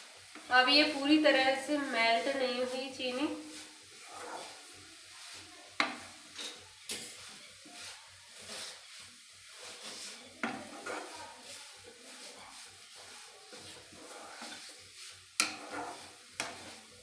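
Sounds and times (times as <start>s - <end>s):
spoon scraping a pan: 0.1s - 17.0s.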